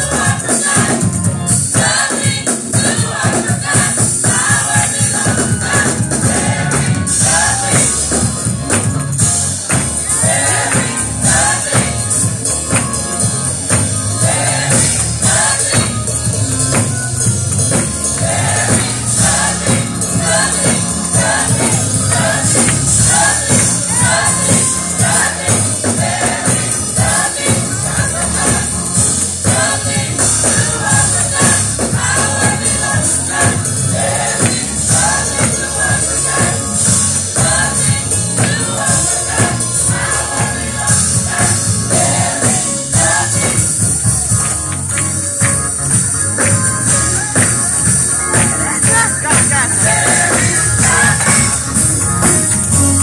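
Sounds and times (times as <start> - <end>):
choir singing: 0.0 - 44.4, 46.8 - 53.0
high jingling beat: 0.0 - 53.0
rhythmic percussion: 0.0 - 53.0.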